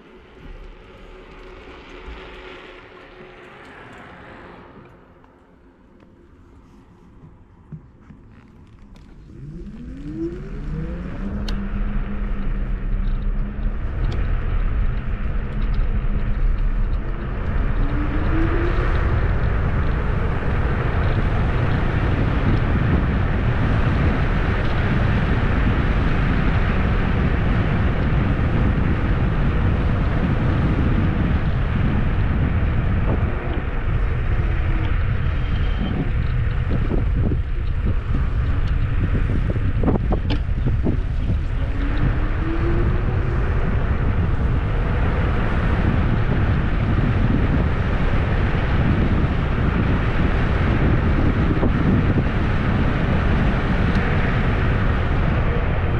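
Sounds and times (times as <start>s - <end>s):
electric scooter motor whine: 0.0s - 55.9s
wind buffeting on microphone: 6.2s - 55.9s.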